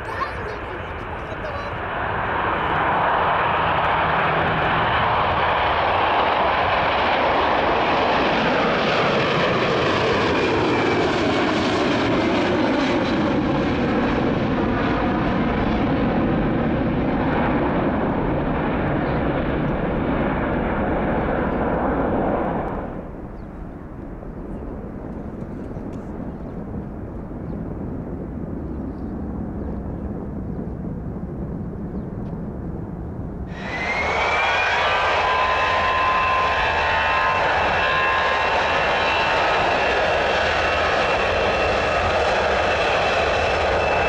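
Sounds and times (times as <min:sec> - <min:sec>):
jet engine whine: 0:00.0 - 0:44.0
jet engines roaring: 0:00.0 - 0:44.0.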